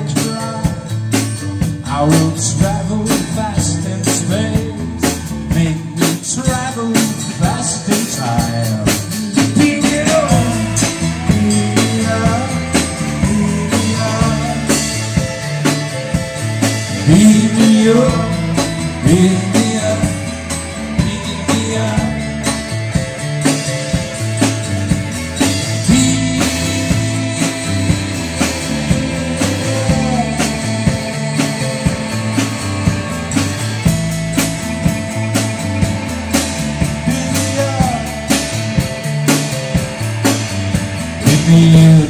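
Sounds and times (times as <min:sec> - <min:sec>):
bass guitar: 0:00.0 - 0:42.0
drum kit beat: 0:00.0 - 0:42.0
electric and acoustic guitars: 0:00.0 - 0:42.0.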